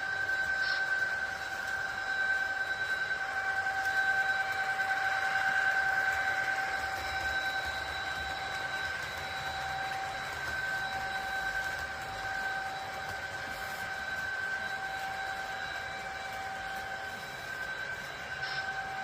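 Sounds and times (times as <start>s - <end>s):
train high-pitched whine: 0.0s - 19.0s.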